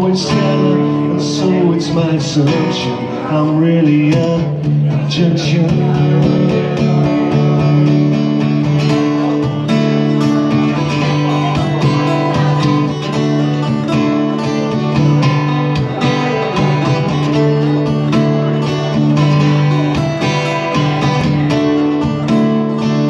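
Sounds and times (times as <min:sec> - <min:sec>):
acoustic guitars strumming: 0:00.0 - 0:23.0.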